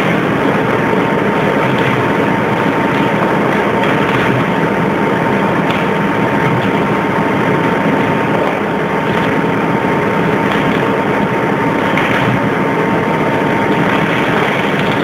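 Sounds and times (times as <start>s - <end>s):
arc furnace rushing noise: 0.0s - 15.0s.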